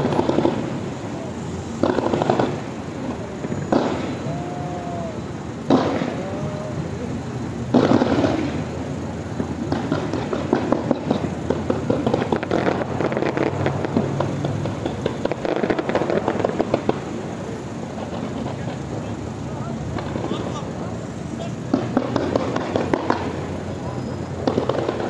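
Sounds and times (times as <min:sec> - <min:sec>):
crackle of small firework pops: 0:00.0 - 0:06.5, 0:07.6 - 0:20.6, 0:21.5 - 0:25.0
firework bangs: 0:00.0 - 0:25.0.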